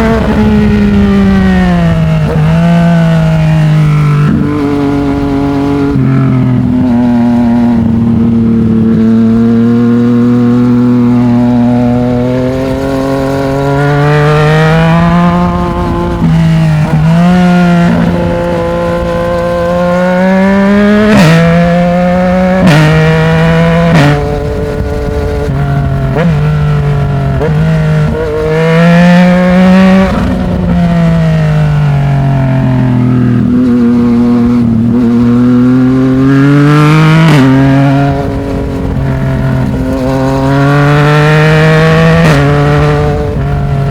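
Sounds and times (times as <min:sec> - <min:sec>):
motorcycle engine revving through gears: 0:00.0 - 0:43.9.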